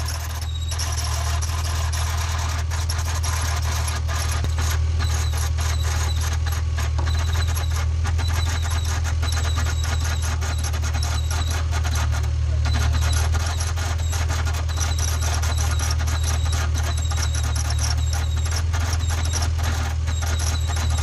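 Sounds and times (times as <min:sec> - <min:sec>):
car engine running: 0:00.0 - 0:21.0
steady high squeal: 0:00.0 - 0:21.0.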